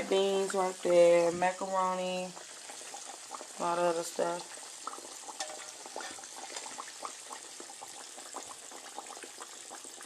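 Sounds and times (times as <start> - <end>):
meat sizzling in oil: 0.0 - 10.0
oil popping and crackling: 0.0 - 10.0.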